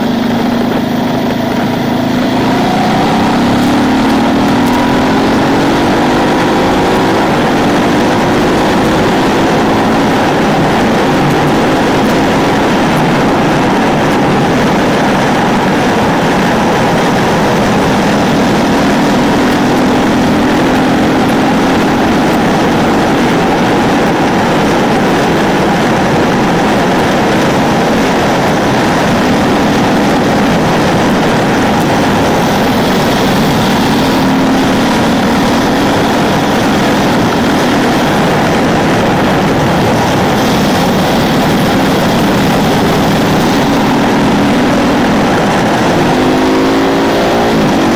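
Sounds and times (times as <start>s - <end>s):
motorcycle engine running: 0.0s - 47.9s
wind rush: 0.0s - 47.9s.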